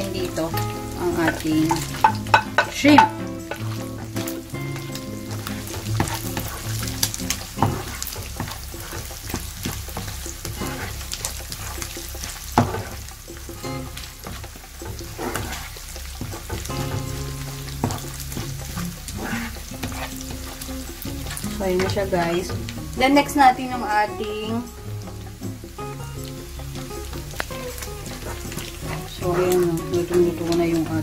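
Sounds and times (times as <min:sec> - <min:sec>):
background music: 0:00.0 - 0:31.0
food sizzling in frying pan: 0:00.0 - 0:31.0.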